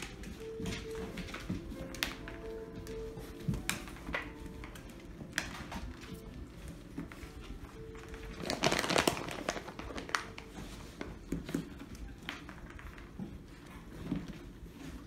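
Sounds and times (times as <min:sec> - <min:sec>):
puppy paws tapping on wood: 0:00.0 - 0:15.0
rustling crinkle: 0:00.0 - 0:15.0.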